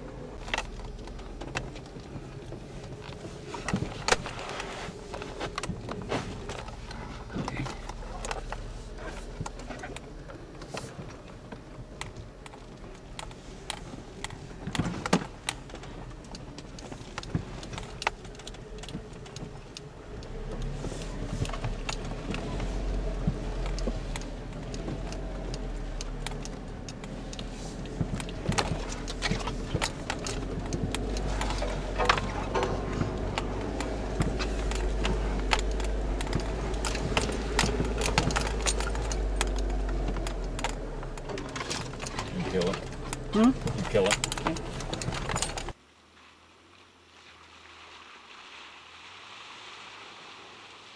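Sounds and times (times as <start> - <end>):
engine running low: 0.0 - 45.8
vehicle cab rattling: 0.0 - 45.8.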